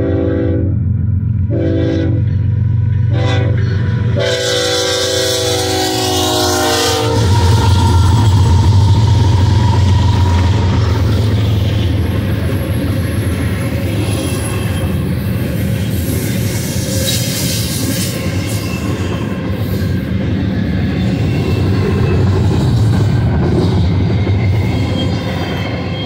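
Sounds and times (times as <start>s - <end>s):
diesel locomotive rumble: 0.0s - 26.0s
train wheels on rails: 0.0s - 26.0s
high-pitched wheel noise: 5.0s - 26.0s.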